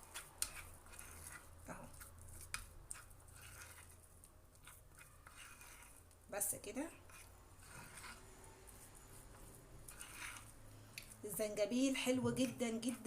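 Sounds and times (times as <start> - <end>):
spoon stirring sticky mixture: 0.0 - 13.0.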